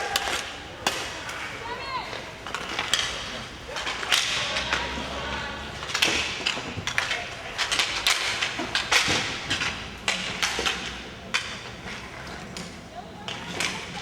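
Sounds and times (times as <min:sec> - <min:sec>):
puck hitting rink boards: 0:00.0 - 0:05.0, 0:05.8 - 0:14.0
hockey sticks striking puck: 0:00.0 - 0:05.2, 0:05.8 - 0:14.0.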